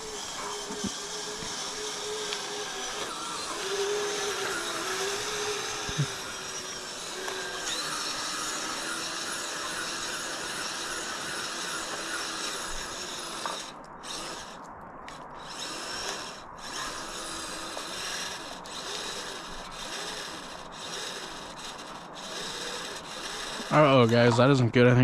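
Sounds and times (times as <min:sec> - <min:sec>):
metal tracks rubbing and rattling: 0:00.0 - 0:14.6, 0:15.4 - 0:24.5
electric motors whining: 0:00.0 - 0:24.5.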